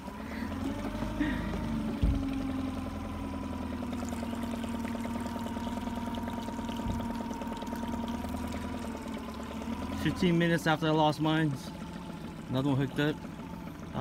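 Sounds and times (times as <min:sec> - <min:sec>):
pulsing mechanical whir: 0:00.0 - 0:14.0.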